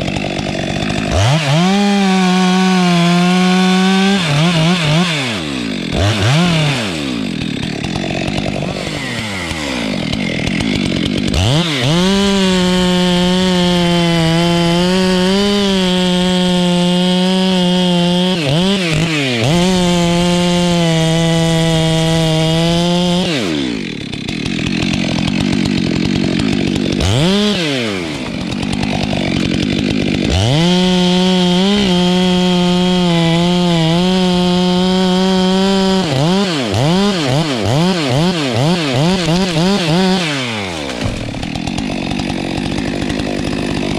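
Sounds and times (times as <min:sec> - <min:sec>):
chainsaw revving and cutting wood: 0:00.0 - 0:43.9.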